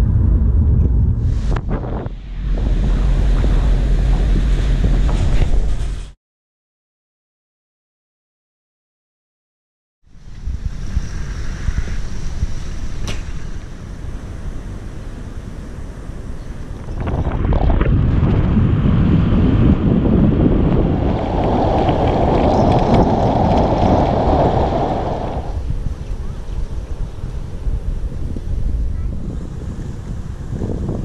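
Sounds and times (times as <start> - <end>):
wind rushing over microphone: 0.0 - 6.2, 10.1 - 31.0.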